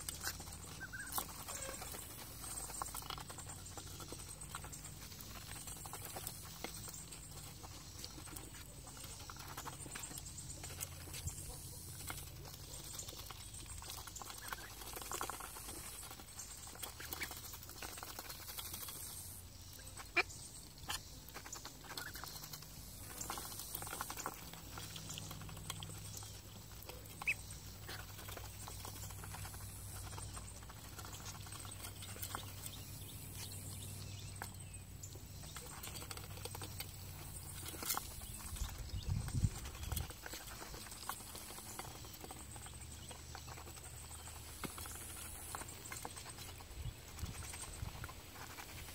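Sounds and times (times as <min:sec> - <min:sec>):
duck bills clicking in pellets: 0:00.0 - 0:48.9.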